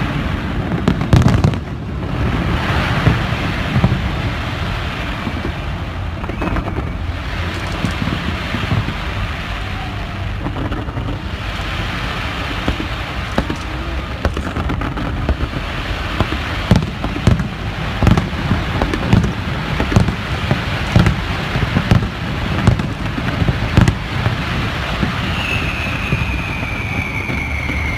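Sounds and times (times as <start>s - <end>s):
fireworks booming: 0.0s - 27.9s
steady rushing noise: 0.0s - 27.9s.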